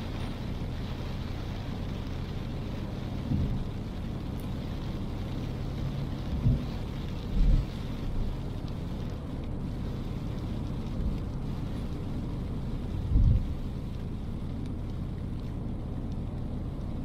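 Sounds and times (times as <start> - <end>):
faint hiss of rain: 0.0 - 17.0
road and engine rumble: 0.0 - 17.0.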